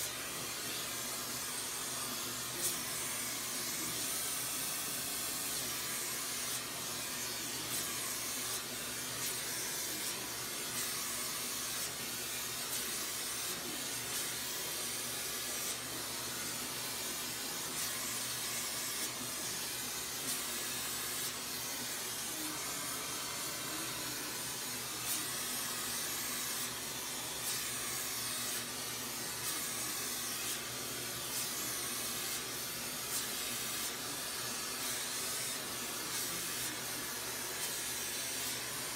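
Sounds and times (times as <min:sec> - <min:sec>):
gas torch hissing: 0:00.0 - 0:38.9.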